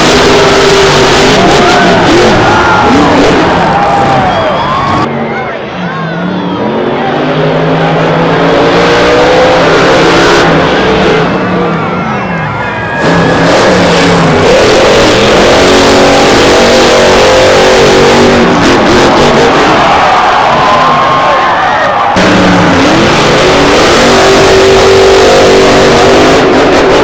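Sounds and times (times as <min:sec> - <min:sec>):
monster truck engines revving: 0:00.0 - 0:27.0.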